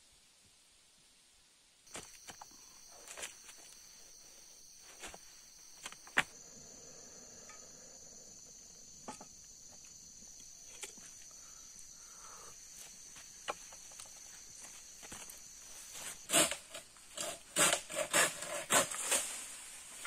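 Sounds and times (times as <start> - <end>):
forest insects droning: 0.0 - 20.0.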